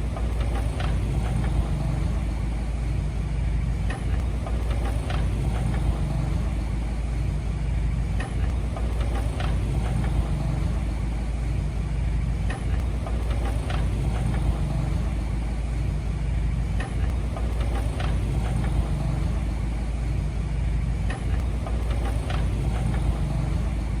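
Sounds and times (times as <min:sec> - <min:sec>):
heavy machine diesel engine running: 0:00.0 - 0:24.0.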